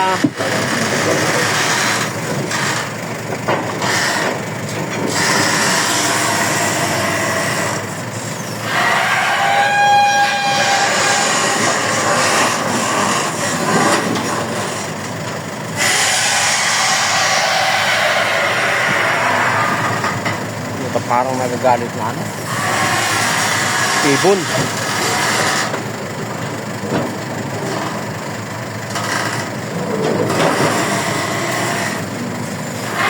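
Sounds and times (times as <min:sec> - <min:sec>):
excavator engine and hydraulics: 0:00.0 - 0:33.0
excavator joints groaning and squealing: 0:00.0 - 0:33.0.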